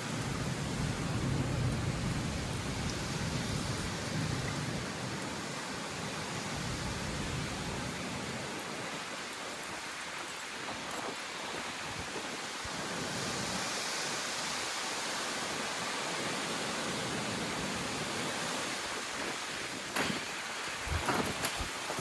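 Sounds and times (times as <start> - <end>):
driving rain: 0.0 - 22.0.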